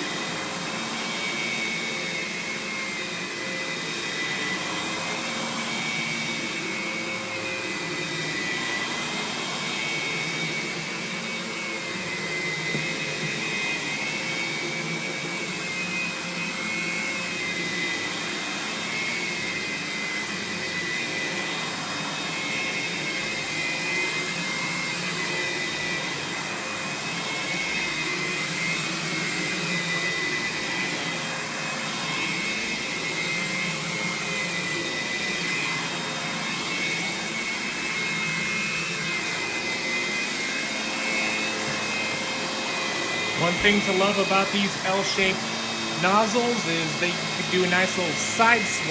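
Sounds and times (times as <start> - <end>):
vacuum cleaner high whine: 0.0 - 48.9.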